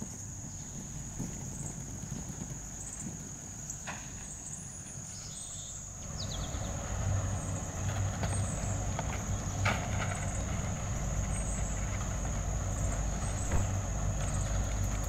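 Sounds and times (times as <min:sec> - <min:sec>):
insects trilling: 0:00.0 - 0:15.0
low outdoor rumble: 0:00.0 - 0:15.0.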